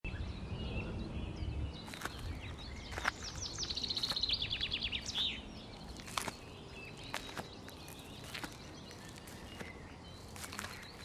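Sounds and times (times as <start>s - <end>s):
songbird singing: 0.1s - 11.0s.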